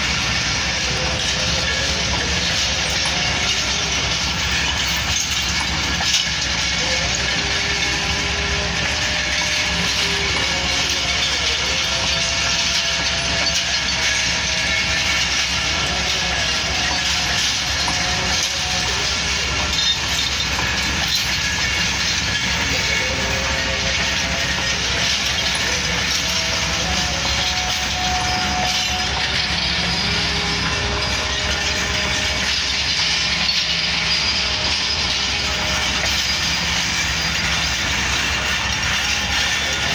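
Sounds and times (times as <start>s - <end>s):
train wheels clacking on rail joints: 0.0s - 39.9s.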